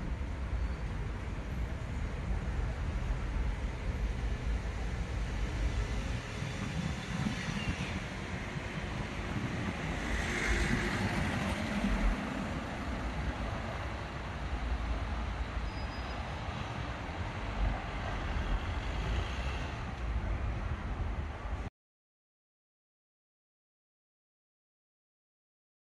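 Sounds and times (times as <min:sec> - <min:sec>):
passing vehicles: 0:00.0 - 0:21.6
wind rumbling on microphone: 0:00.0 - 0:21.7.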